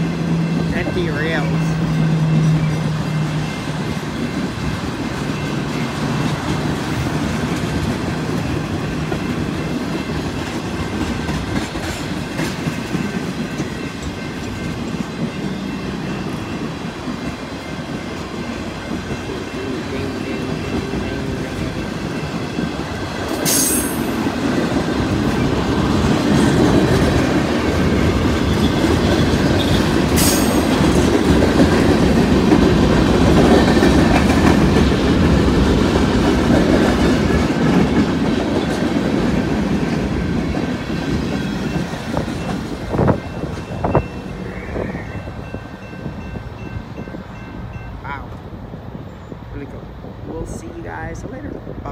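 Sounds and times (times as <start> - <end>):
train wheels clickety-clack: 0.0 - 44.2.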